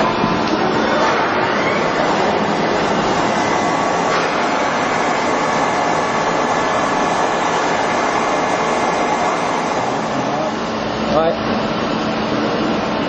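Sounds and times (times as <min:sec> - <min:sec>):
machine running: 0:00.0 - 0:13.0.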